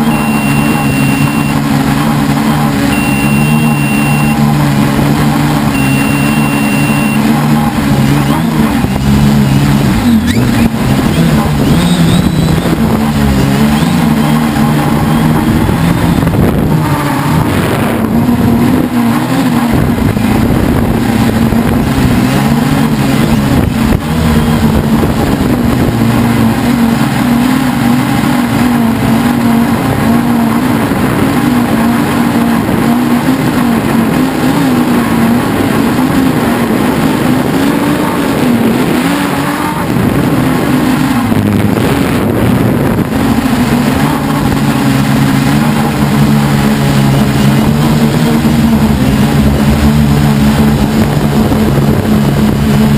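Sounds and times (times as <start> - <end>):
drone motors buzzing hum: 0.0 - 52.9.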